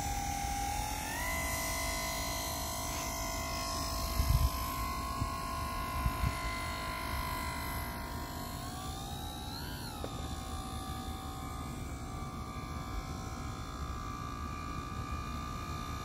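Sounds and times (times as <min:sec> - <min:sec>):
model boat motor whine: 0:00.0 - 0:16.0.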